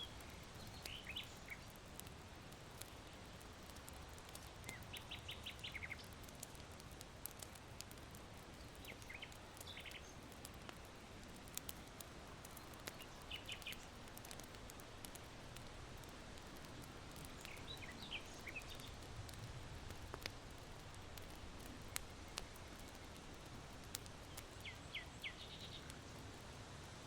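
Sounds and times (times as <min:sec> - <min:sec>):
small birds chirping: 0:00.0 - 0:02.1, 0:02.8 - 0:16.1, 0:17.1 - 0:26.5
charcoal fire crackling: 0:00.0 - 0:27.0.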